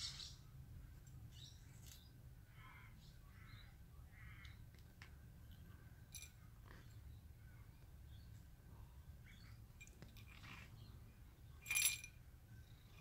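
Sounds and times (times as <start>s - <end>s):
faint bird chirps: 0.0s - 4.7s, 5.4s - 13.0s.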